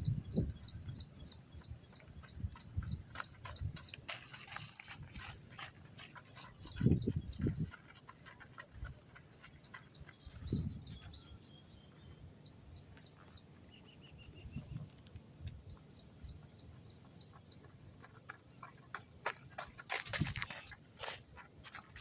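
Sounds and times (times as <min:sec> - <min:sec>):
bird chirping: 0:00.0 - 0:04.7, 0:05.3 - 0:20.6.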